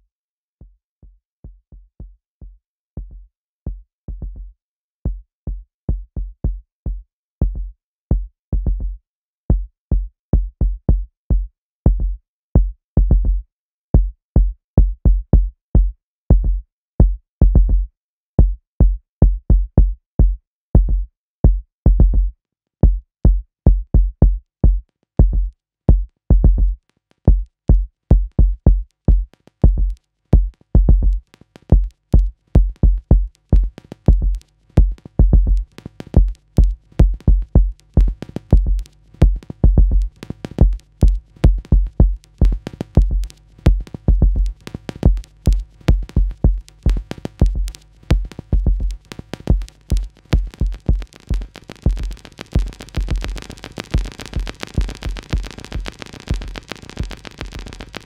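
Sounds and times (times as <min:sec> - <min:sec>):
drum machine kick drums: 0:01.4 - 0:13.4, 0:14.0 - 0:58.0.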